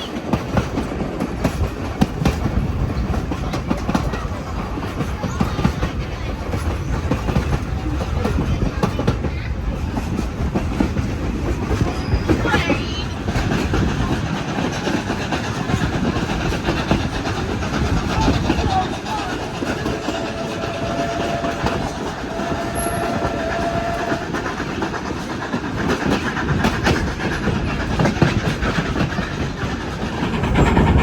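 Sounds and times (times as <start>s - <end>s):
train wheels rumbling and clicking: 0.0s - 31.0s.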